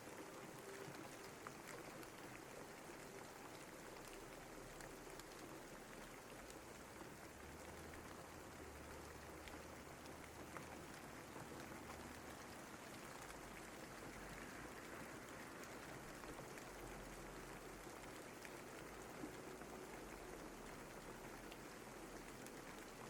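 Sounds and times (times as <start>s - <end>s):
raindrops ticking: 0.0s - 23.0s
soft rain falling: 0.0s - 23.0s.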